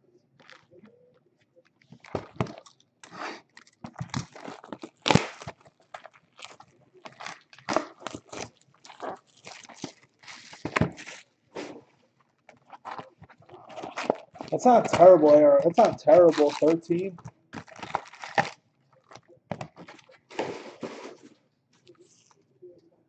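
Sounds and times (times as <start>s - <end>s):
wrappers crinkling and tearing: 1.8s - 22.3s.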